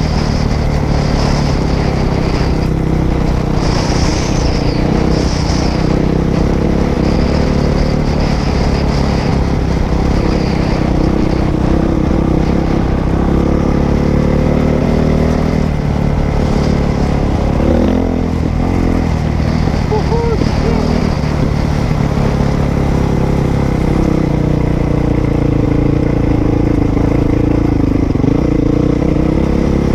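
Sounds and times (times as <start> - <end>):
dirt bike engine running: 0.0 - 29.9.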